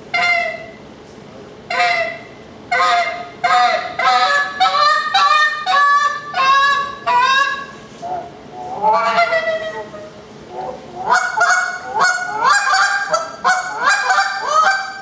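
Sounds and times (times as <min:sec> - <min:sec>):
goose call honks: 0:00.1 - 0:00.8, 0:01.7 - 0:15.0.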